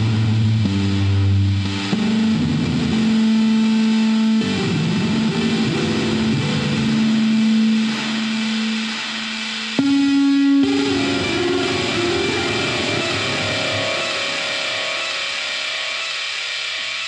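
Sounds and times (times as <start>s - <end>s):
droning distorted music: 0.0s - 17.0s.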